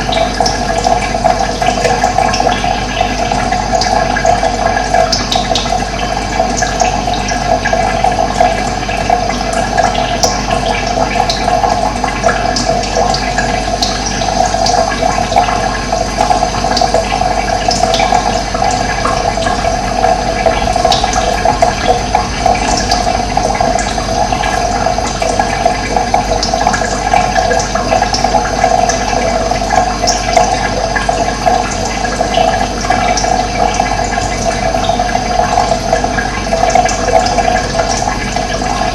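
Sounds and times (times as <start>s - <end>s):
running water splashing: 0.0s - 38.9s.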